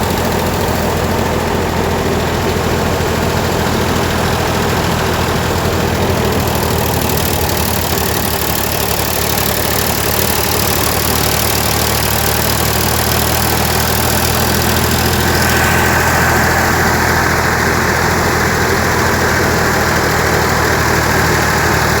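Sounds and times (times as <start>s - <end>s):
high steady hum: 0.0s - 22.0s
tractor diesel engine running: 0.0s - 22.0s.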